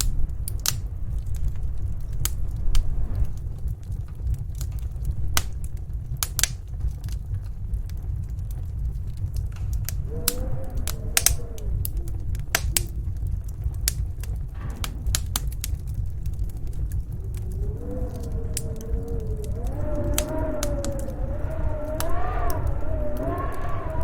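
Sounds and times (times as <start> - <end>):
wind howling: 0.0 - 24.0
wood fire crackling and popping: 0.0 - 24.0.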